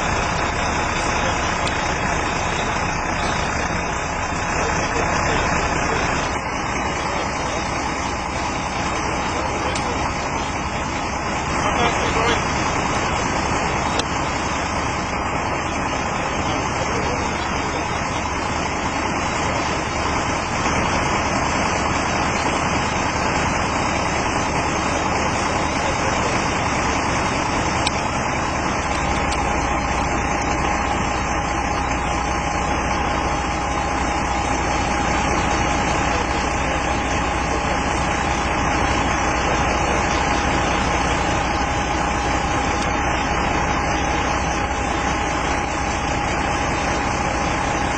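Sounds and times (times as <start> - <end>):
thin steady tone: 0.0 - 47.9
vehicle engine idling: 0.0 - 47.9.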